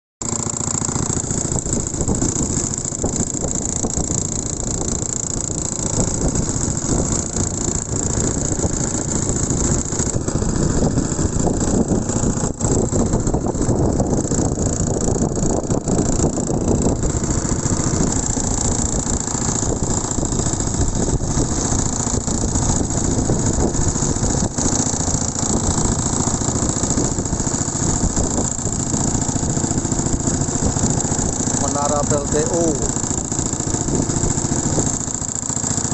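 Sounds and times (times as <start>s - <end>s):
strong wind on microphone: 1.4s - 35.3s.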